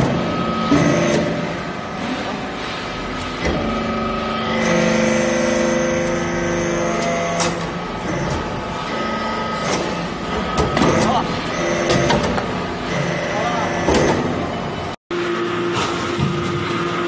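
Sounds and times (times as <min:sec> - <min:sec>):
hydraulic press machine hum: 0:00.0 - 0:17.0.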